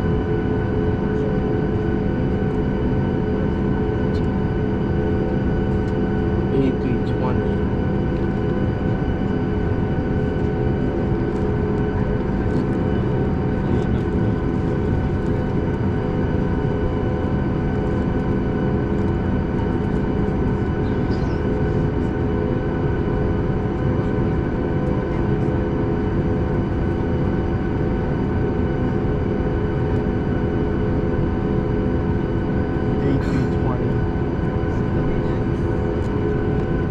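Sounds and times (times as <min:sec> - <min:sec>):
aircraft cabin engine hum: 0:00.0 - 0:36.9.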